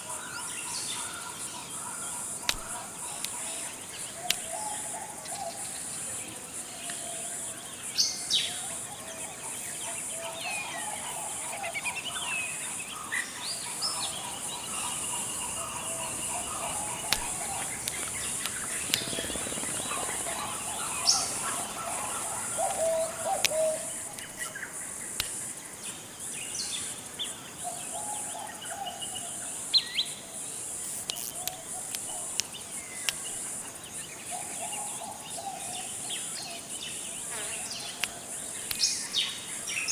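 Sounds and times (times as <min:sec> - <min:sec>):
birds calling and chirping: 0:00.0 - 0:06.2, 0:06.8 - 0:26.9, 0:27.6 - 0:39.9
high-pitched insect drone: 0:00.2 - 0:27.1, 0:28.3 - 0:39.9.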